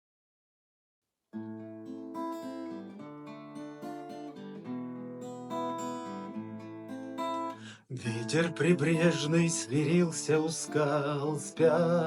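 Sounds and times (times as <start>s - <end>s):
acoustic guitar chords: 1.4s - 12.0s.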